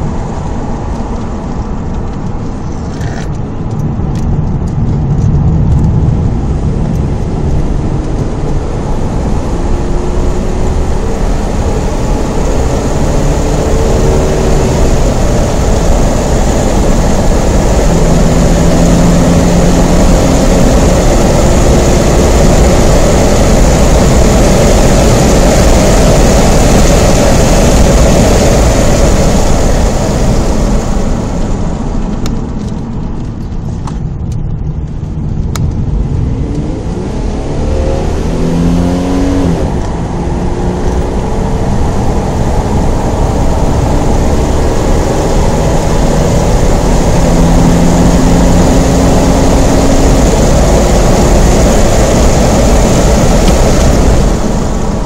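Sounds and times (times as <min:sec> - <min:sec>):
car engine accelerating: 0:00.0 - 0:55.0
road and wind noise: 0:00.0 - 0:55.0.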